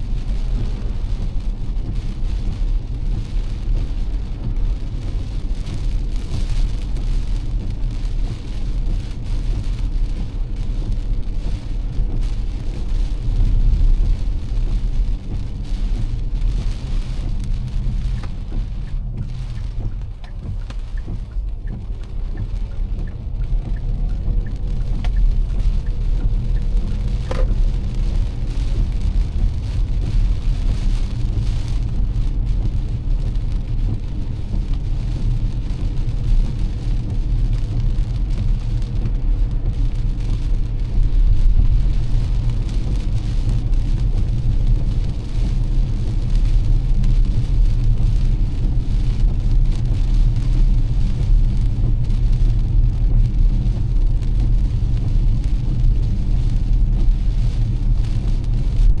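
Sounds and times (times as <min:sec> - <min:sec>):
rain hissing on car and road: 0:00.0 - 0:59.0
road and engine rumble: 0:00.0 - 0:59.0.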